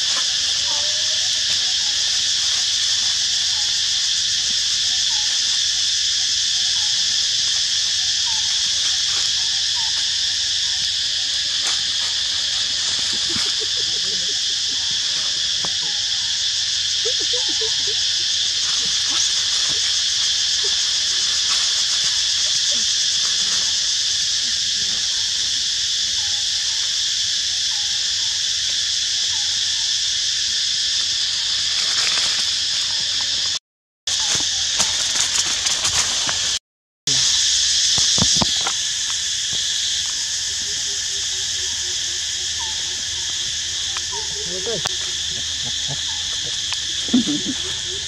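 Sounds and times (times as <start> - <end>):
high-pitched insect drone: 0.0 - 48.0.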